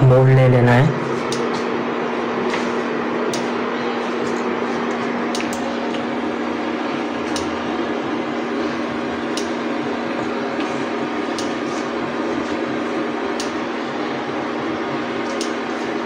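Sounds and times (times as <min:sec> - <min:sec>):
induction cooktop fan hum: 0:00.0 - 0:16.0.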